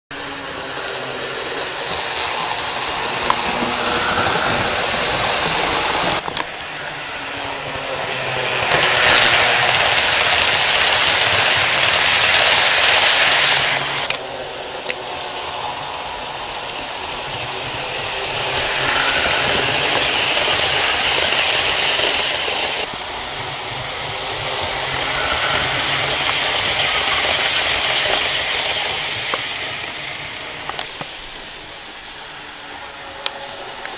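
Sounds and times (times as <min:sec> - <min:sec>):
model train whirring and rattling: 0:00.1 - 0:33.9.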